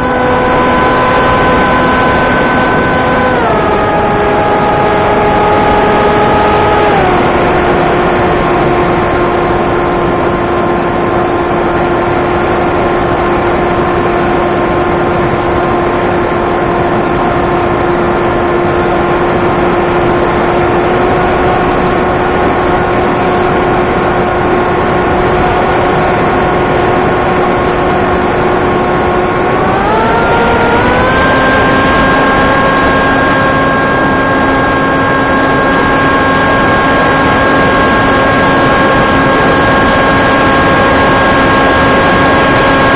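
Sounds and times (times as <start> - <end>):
model plane motor whine: 0.0 - 42.9.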